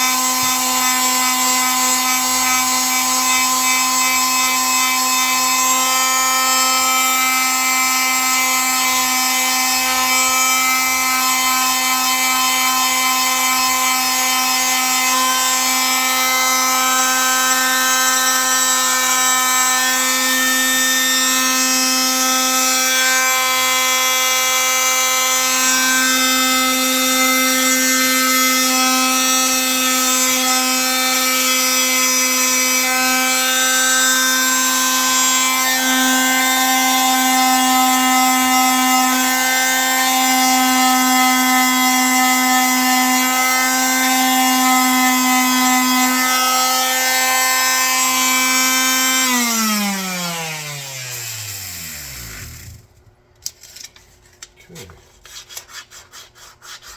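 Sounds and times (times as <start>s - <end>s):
power tool whining on wood: 0.0s - 53.0s.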